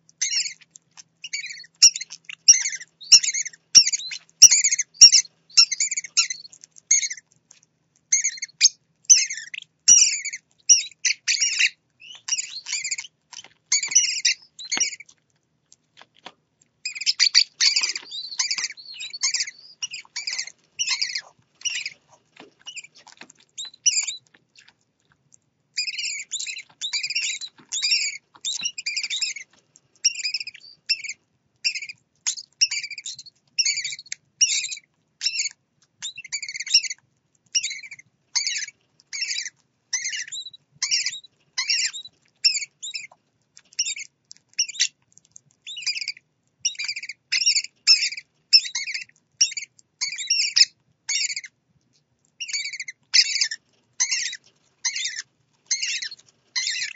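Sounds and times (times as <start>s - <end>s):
parrot chicks chirping: 0.1s - 56.9s.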